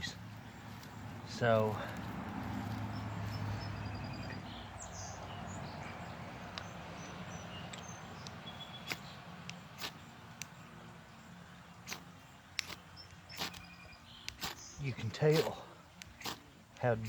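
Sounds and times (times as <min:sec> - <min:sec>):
bird chirps: 0:02.6 - 0:17.0.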